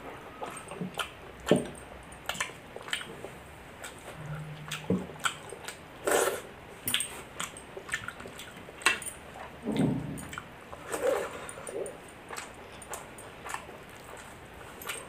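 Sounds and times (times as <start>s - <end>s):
chewing with lip smacks: 0.0s - 15.0s.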